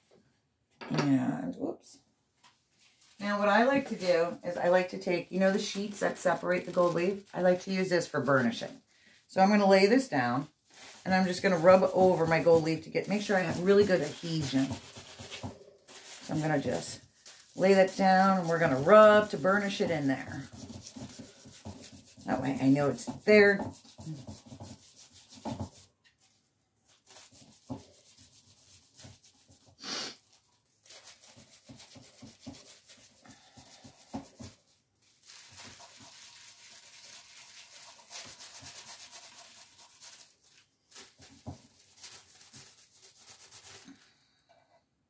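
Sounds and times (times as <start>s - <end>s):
paper rubbing over gold leaf: 2.8s - 8.7s, 10.6s - 25.9s, 26.9s - 44.0s.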